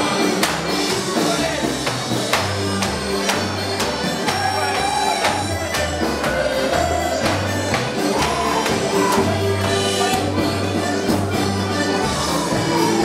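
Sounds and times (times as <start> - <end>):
dance music with steady beat: 0.4 - 13.0.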